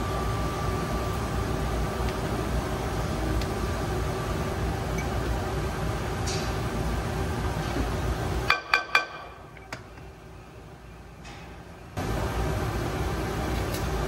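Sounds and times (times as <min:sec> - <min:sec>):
steady mechanical hum with hiss: 0:00.0 - 0:14.0.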